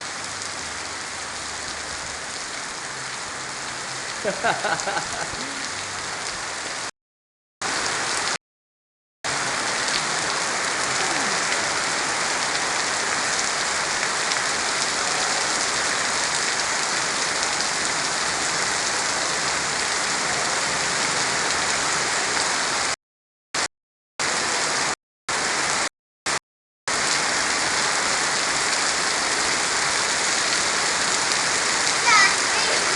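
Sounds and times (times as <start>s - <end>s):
heavy rain falling: 0.0s - 6.9s, 7.6s - 8.4s, 9.3s - 23.0s, 23.6s - 32.9s.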